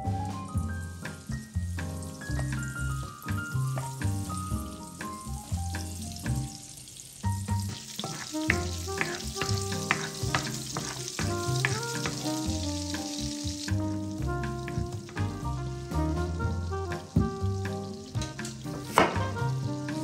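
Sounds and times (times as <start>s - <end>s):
background music with bass line: 0.0s - 6.6s, 7.3s - 20.0s
food sizzling in a frying pan: 0.0s - 20.0s.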